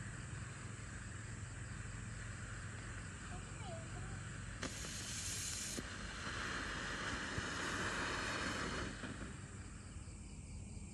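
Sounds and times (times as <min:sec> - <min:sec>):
firework fountain hissing: 0:00.0 - 0:10.4
faint firework crackles: 0:00.0 - 0:10.8.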